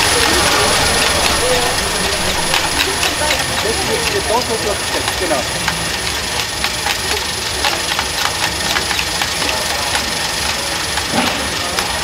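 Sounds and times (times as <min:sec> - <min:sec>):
gravel clattering: 0:00.0 - 0:12.0.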